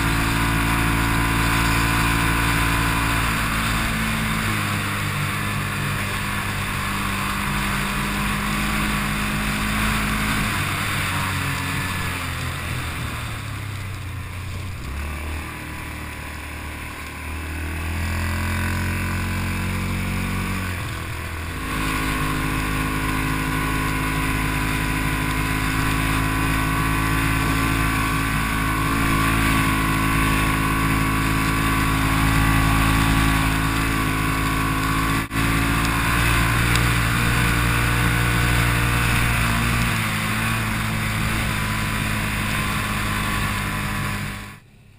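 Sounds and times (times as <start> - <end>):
off-road vehicle engine running: 0.0 - 44.9.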